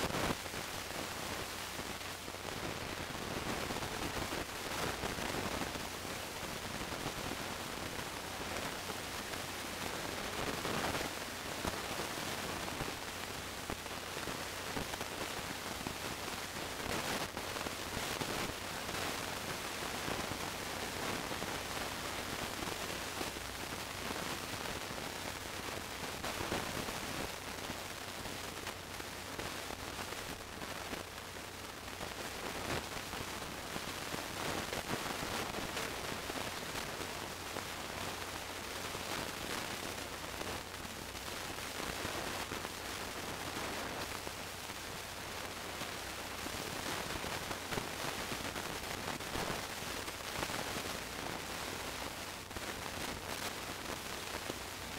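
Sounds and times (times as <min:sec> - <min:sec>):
faint crackles: 0:00.0 - 0:54.9
static hiss: 0:00.0 - 0:54.9.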